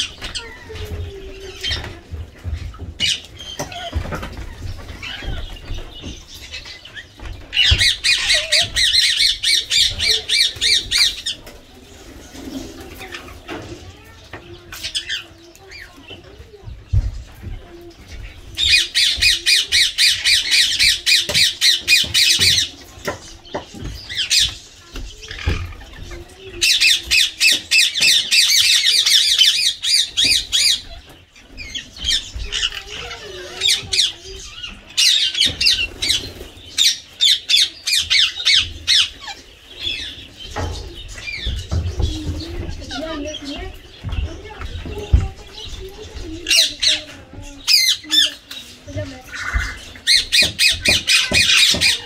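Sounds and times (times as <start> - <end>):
parakeets screeching: 0.0 - 52.0.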